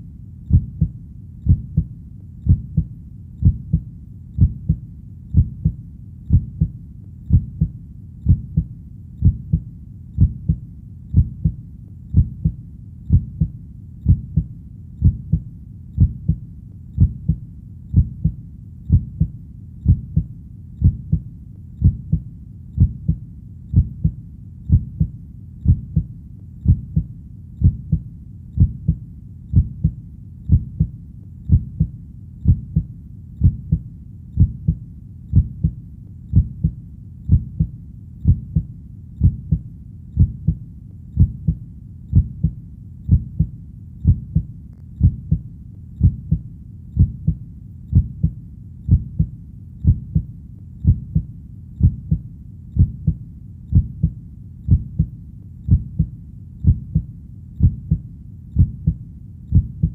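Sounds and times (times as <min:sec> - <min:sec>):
human heartbeat: 0:00.0 - 0:59.9.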